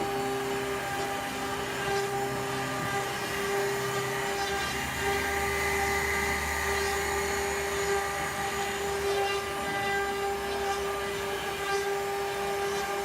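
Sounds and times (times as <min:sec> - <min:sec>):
low machine hum: 0:00.0 - 0:13.0
wood lathe whine: 0:00.0 - 0:13.0.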